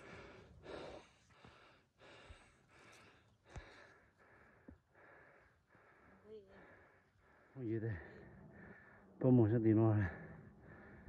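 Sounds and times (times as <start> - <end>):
faint breathing: 0.0 - 9.2, 10.2 - 11.0.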